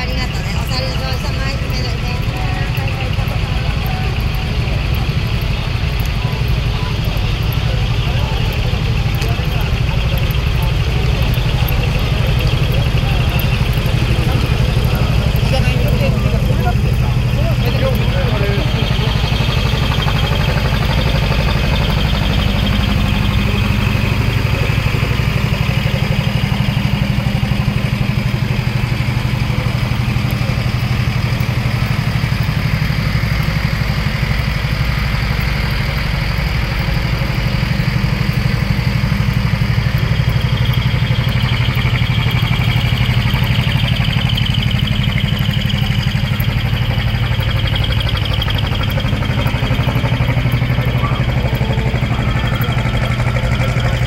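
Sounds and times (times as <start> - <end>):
diesel engines idling: 0.0 - 54.0.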